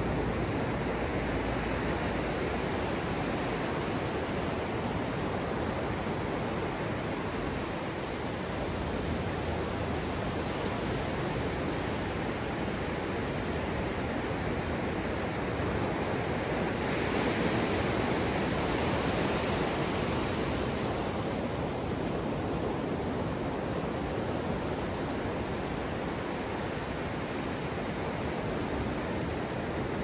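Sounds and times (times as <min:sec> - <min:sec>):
ocean surf washing on sand: 0:00.0 - 0:30.0.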